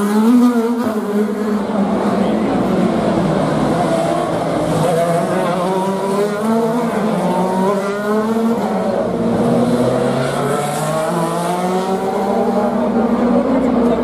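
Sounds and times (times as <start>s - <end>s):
race cars accelerating: 0.0s - 14.0s.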